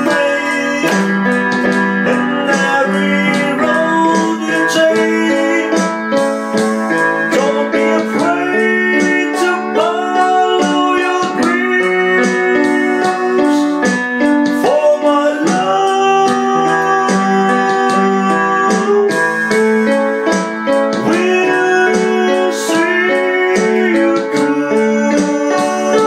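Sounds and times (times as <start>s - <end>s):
electronic keyboard melody: 0.0s - 26.0s.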